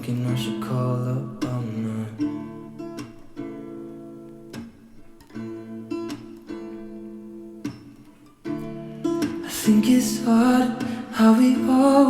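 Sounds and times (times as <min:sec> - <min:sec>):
acoustic guitar strumming slow chords: 0:00.0 - 0:12.0.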